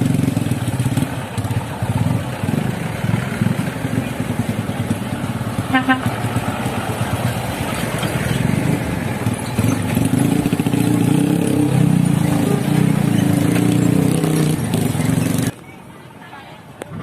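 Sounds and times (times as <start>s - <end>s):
truck diesel engine running: 0.0s - 15.6s.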